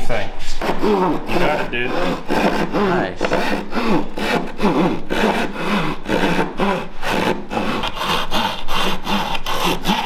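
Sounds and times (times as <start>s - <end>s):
hand saw cutting wood: 0.4s - 10.0s.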